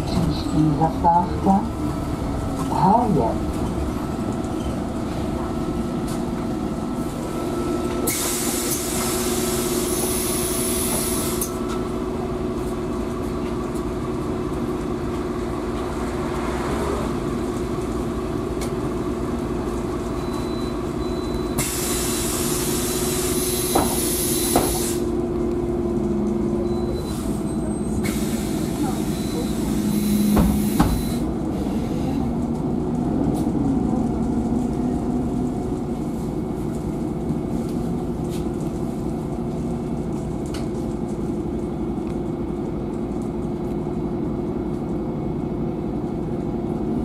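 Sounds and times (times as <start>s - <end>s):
bus engine hum: 0.0s - 47.0s
road noise: 0.0s - 47.0s.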